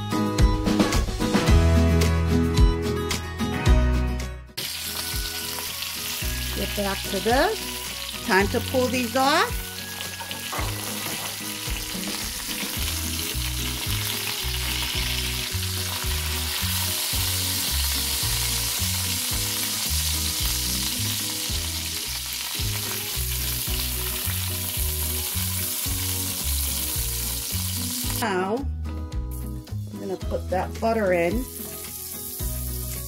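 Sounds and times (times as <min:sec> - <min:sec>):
background music with bass line: 0:00.0 - 0:33.0
chicken sizzling in hot fat: 0:04.6 - 0:28.4, 0:29.3 - 0:33.0.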